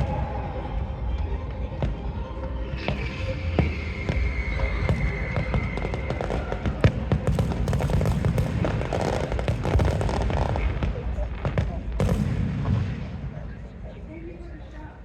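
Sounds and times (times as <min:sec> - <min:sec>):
fireworks cracking and banging: 0:00.0 - 0:14.3.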